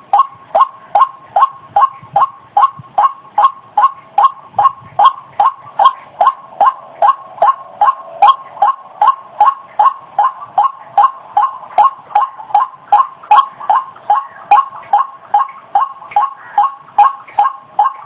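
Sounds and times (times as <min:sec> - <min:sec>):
waterhen calls: 0:00.1 - 0:18.0.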